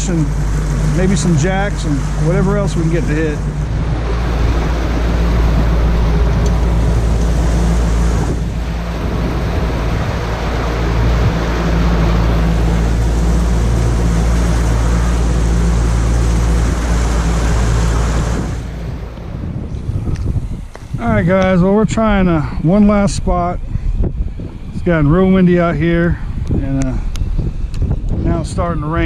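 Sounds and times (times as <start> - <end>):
boat motor humming: 0.0 - 29.0
wind and water rushing: 0.0 - 29.0.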